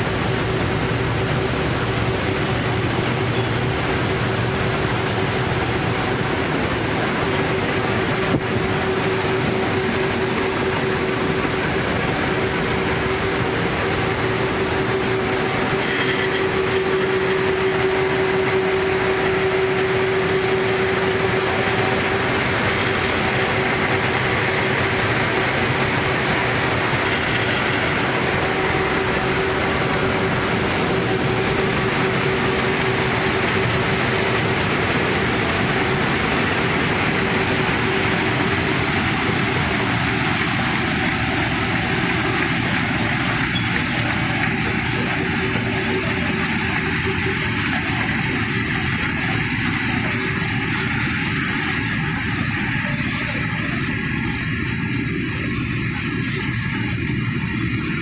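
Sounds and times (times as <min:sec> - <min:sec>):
vehicle running hum: 0:00.0 - 0:58.0.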